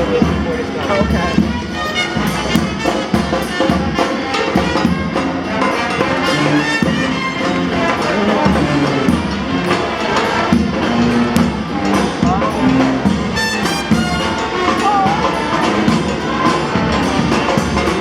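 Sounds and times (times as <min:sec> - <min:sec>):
brass band playing: 0:00.0 - 0:18.0
drums beat: 0:00.0 - 0:18.0.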